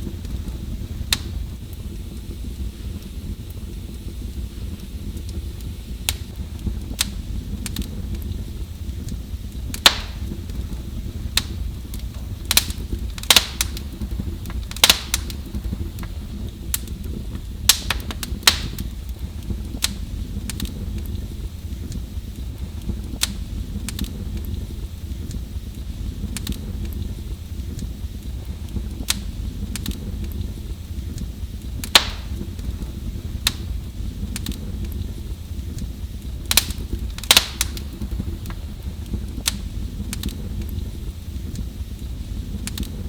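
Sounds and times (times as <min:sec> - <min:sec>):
steady low rumble: 0:00.0 - 0:43.0
wood fire crackling: 0:00.0 - 0:43.0.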